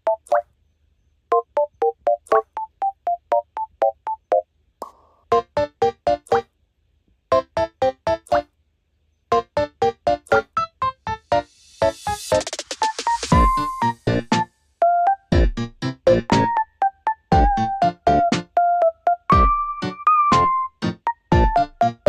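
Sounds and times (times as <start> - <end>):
light keyboard tune: 0.0 - 0.5, 1.3 - 4.5, 5.3 - 6.6, 7.3 - 8.6, 9.3 - 22.0.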